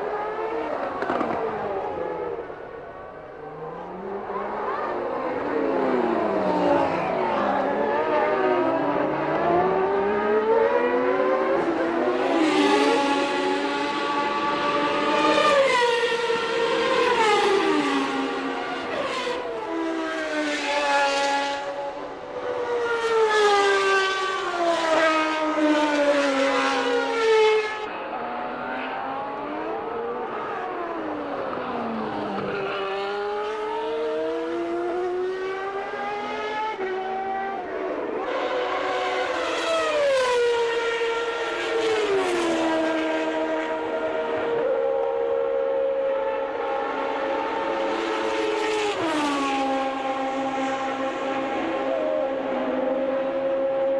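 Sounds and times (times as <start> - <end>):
race cars high-revving engines: 0.0 - 53.9.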